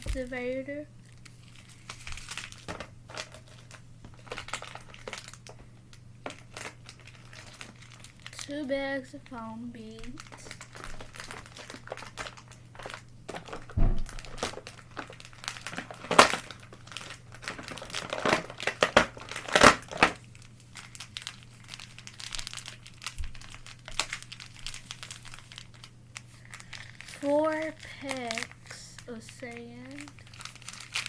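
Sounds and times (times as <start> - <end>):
plastic packets crinkling: 0.0 - 31.0.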